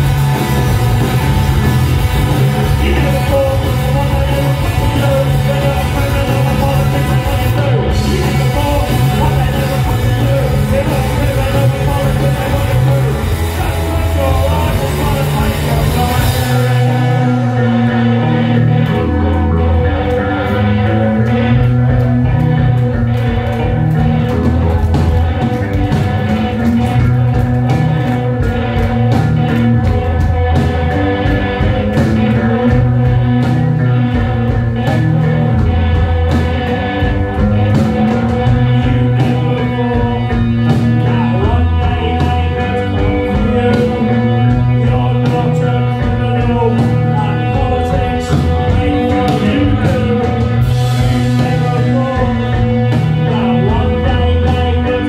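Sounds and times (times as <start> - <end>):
bass line: 0.0 - 55.0
drums driving beat: 0.0 - 55.0
electric guitars: 0.0 - 55.0.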